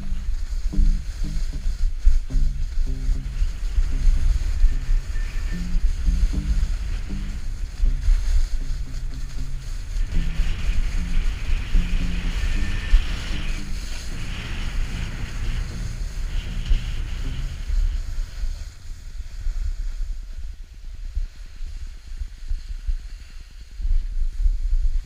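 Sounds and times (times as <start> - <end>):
skis hissing on packed snow: 0.0 - 25.0
wind rumbling on microphone: 0.0 - 25.0.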